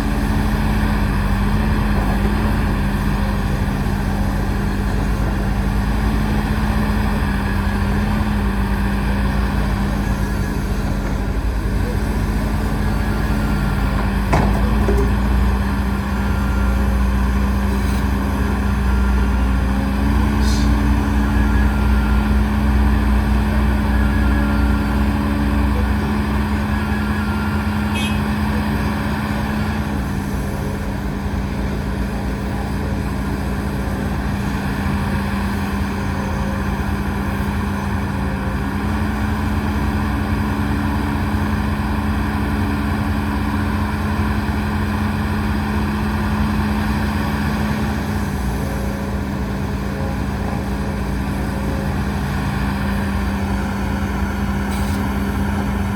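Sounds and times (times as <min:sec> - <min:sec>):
diesel engine drone: 0:00.0 - 0:55.9.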